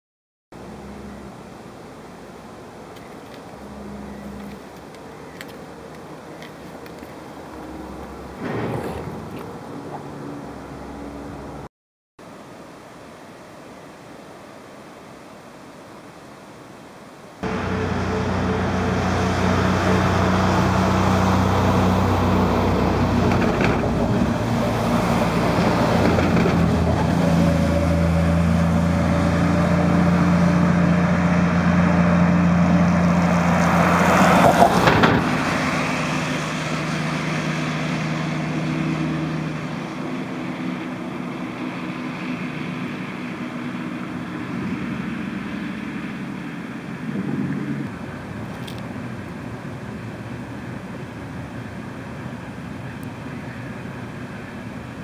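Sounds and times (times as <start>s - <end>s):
van engine hum: 0.6s - 11.7s, 17.4s - 55.0s
tyres on wet asphalt: 1.4s - 11.7s, 17.4s - 55.0s.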